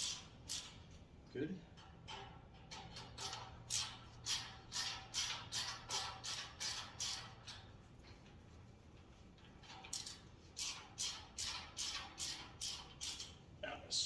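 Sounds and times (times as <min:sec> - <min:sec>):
hand ratchet pawl rattling: 0:00.0 - 0:01.0, 0:01.7 - 0:08.3, 0:09.4 - 0:13.5.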